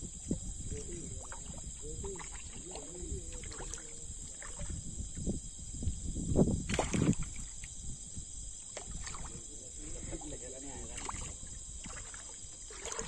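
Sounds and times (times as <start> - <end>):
water splashing and sloshing: 0.0 - 5.4, 6.5 - 13.0.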